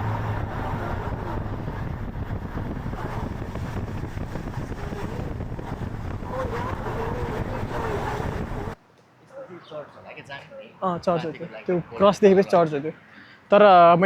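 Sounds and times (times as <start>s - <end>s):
car road noise: 0.0s - 13.8s.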